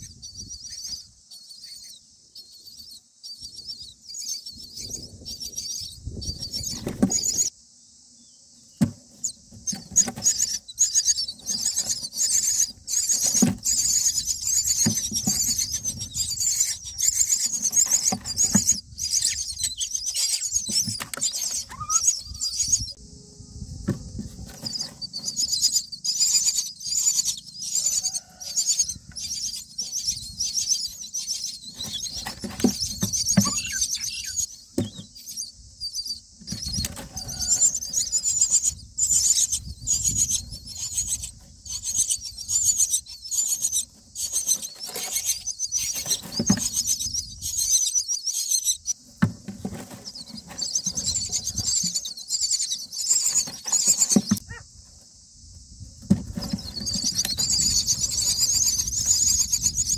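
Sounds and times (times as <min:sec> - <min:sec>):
chicks squeaky begging calls: 0:00.0 - 0:07.5, 0:09.2 - 0:23.0, 0:24.4 - 0:49.0, 0:49.7 - 0:54.8, 0:56.6 - 0:59.9
rustling in a nest box: 0:08.8 - 0:23.0, 0:23.6 - 0:59.9.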